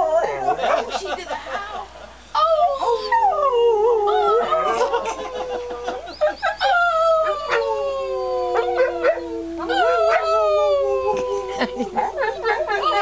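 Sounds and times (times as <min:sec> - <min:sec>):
dog howling: 0:02.4 - 0:13.0.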